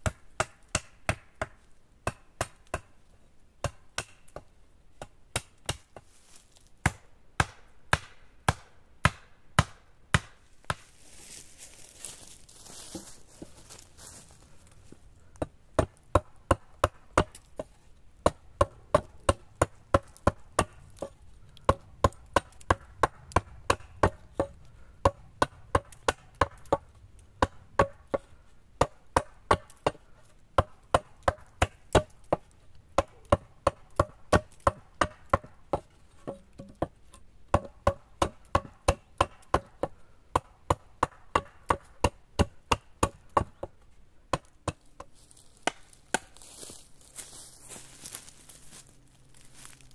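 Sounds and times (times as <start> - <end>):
hatchet chopping wood: 0.0 - 3.0, 3.6 - 6.1, 6.8 - 10.9, 15.3 - 46.4.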